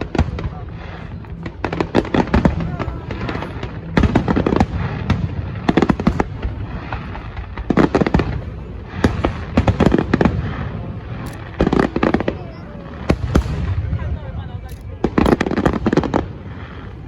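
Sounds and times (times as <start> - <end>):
continuous low rumble: 0.0 - 17.0
firework bangs: 0.0 - 17.0
rapid crackling volleys: 0.0 - 17.0.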